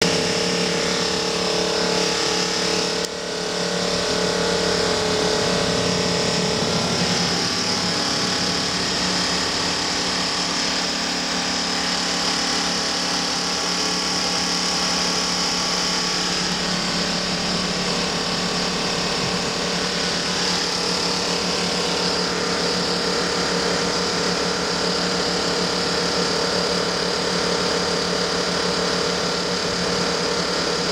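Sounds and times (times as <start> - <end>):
bus engine drone: 0.0 - 30.9
buzzing rattle with high whine: 0.0 - 30.9.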